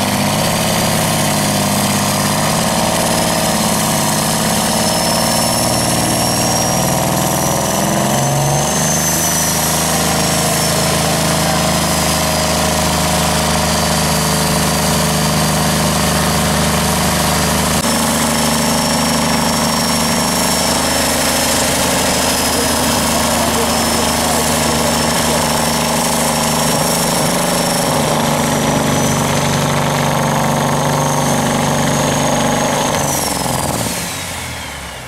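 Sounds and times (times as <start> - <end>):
diesel truck engine under heavy load: 0.0 - 35.0.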